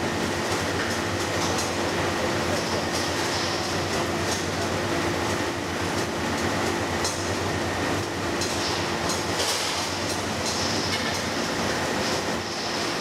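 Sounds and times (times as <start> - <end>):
food processing machinery humming: 0.0 - 13.0.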